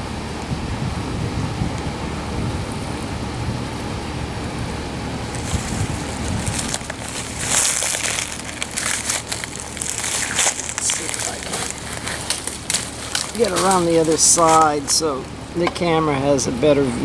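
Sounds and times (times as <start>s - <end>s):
wind blowing across microphone: 0.0s - 15.2s.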